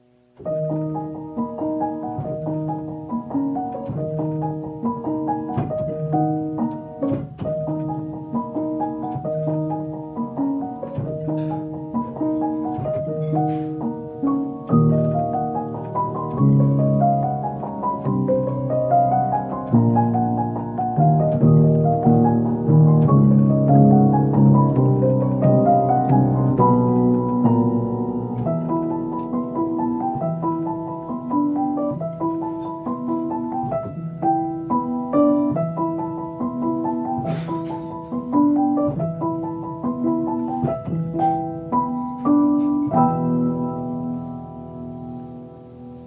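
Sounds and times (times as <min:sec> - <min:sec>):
solo piano playing: 0:00.0 - 0:46.0.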